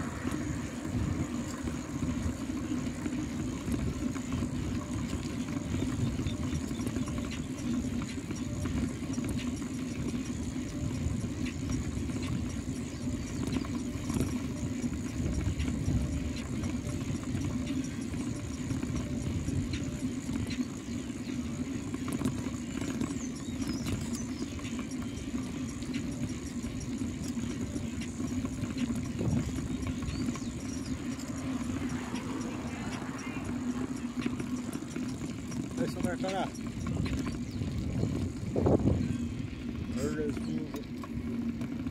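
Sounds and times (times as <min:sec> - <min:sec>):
wind rumbling on microphone: 0:00.0 - 0:22.4, 0:25.3 - 0:41.9
bicycle tyres humming on asphalt: 0:00.0 - 0:41.9.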